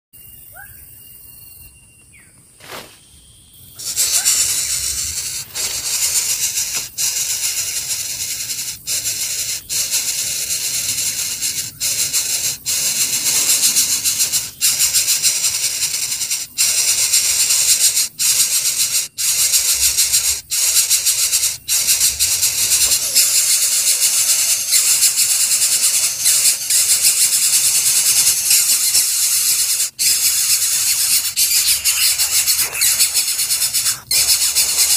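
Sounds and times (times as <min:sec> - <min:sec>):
nestlings hissing: 0:03.8 - 0:34.9.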